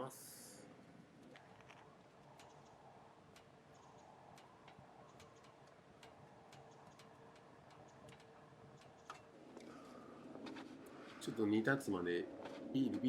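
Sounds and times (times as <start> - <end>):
low background hiss: 0.0 - 13.0
firewood crackling and popping: 0.8 - 13.0.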